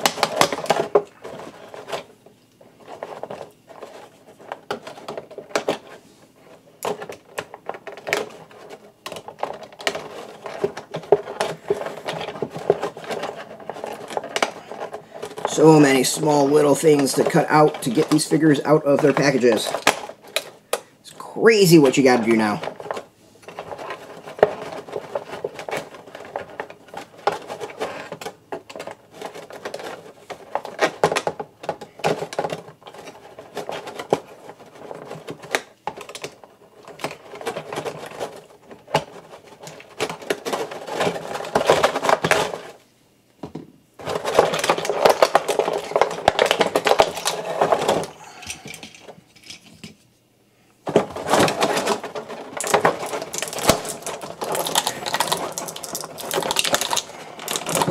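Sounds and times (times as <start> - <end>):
plastic and cardboard crackling: 0.0 - 50.2, 50.8 - 57.9.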